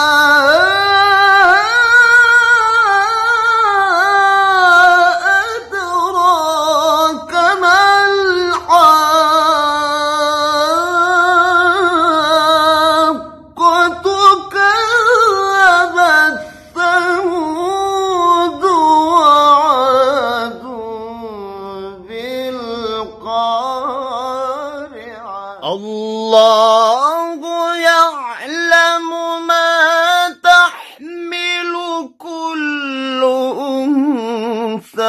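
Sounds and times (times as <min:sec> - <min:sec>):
man chanting melodic recitation: 0:00.0 - 0:35.0.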